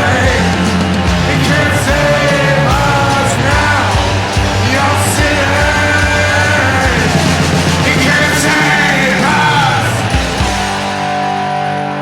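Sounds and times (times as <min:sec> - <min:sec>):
rock band music: 0:00.0 - 0:12.0.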